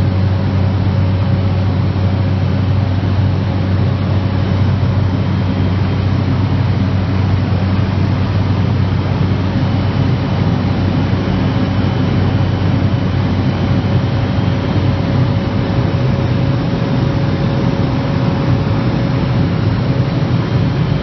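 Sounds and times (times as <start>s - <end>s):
thin steady whine: 0.0s - 21.0s
turboprop engine drone: 0.0s - 21.0s.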